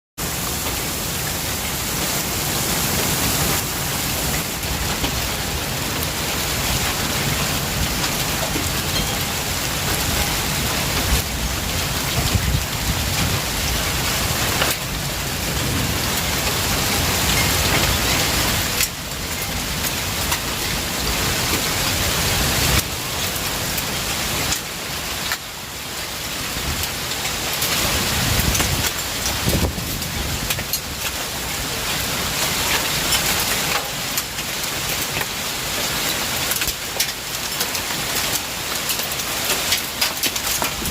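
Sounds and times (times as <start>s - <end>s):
heavy rain pouring: 0.2s - 40.9s.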